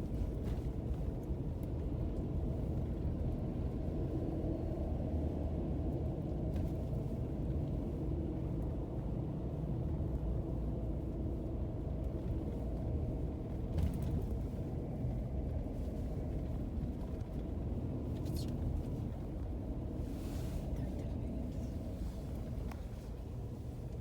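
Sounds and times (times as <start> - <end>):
car driving on snow: 0.0 - 24.0.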